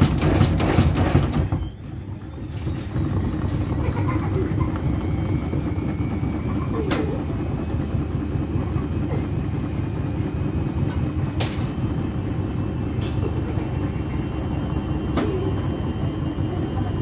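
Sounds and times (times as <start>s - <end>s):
washing machine drum rumbling: 0.0s - 17.0s.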